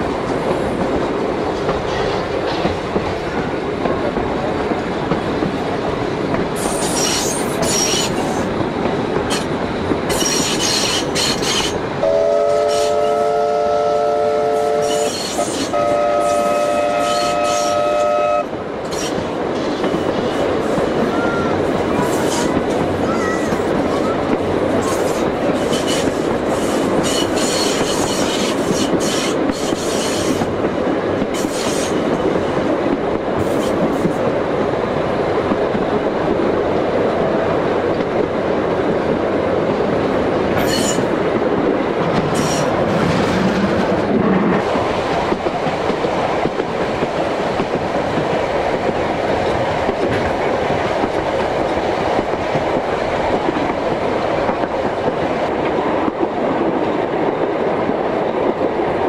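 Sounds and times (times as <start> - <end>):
train carriage rolling on track: 0.0 - 59.0.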